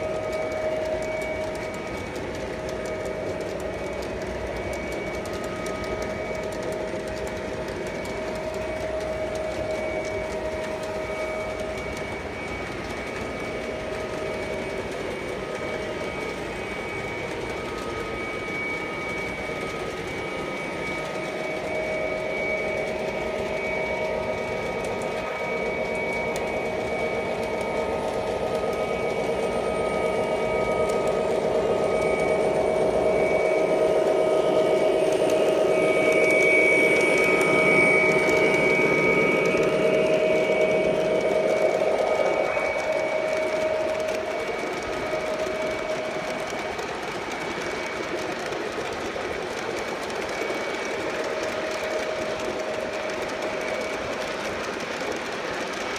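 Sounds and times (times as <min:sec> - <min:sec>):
model train motor hum: 0:00.0 - 0:55.9
whining tones: 0:00.0 - 0:55.9.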